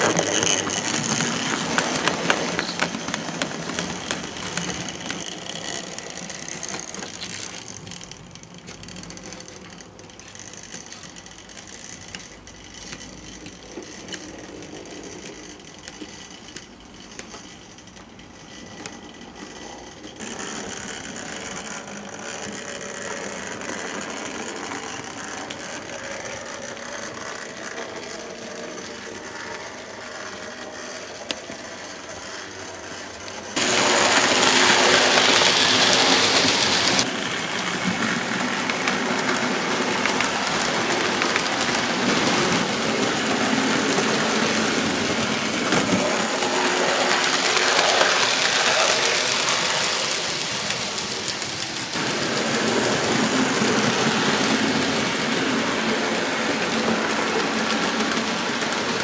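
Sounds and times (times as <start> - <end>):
model trains running on track: 0.0 - 59.0.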